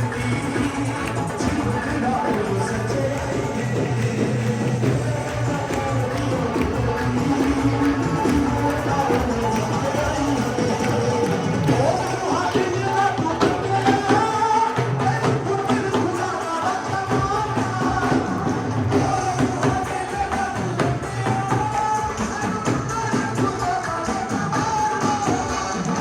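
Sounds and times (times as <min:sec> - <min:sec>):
percussion beat: 0:00.0 - 0:26.0
worship music with singing: 0:00.0 - 0:26.0.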